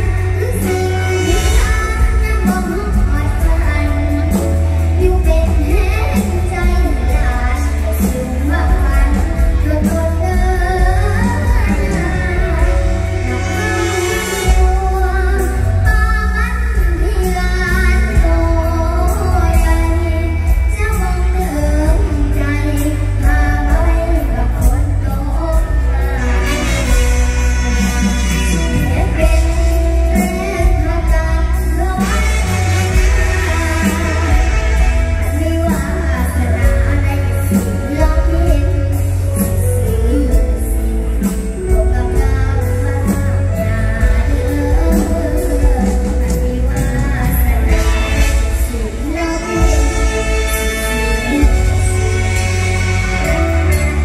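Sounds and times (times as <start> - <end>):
girl singing into microphone: 0.0 - 54.0
live band music: 0.0 - 54.0.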